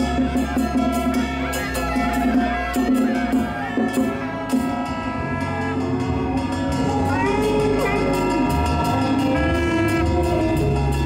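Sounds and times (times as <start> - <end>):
gliding lead melody: 0.0 - 11.0
held synth chords: 0.0 - 11.0
stepping bass line: 0.0 - 11.0.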